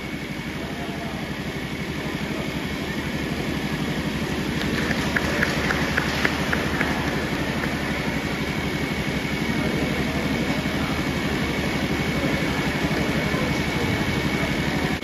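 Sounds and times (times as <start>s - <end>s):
engine running with rapid throb: 0.0s - 15.0s.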